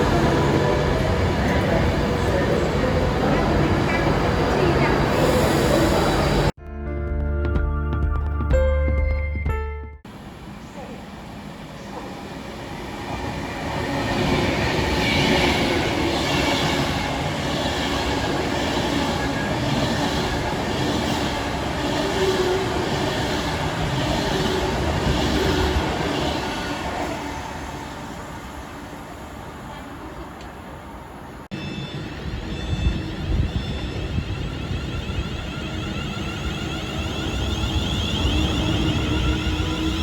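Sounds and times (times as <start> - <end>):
train passing by: 0.0 - 6.6, 10.1 - 40.0.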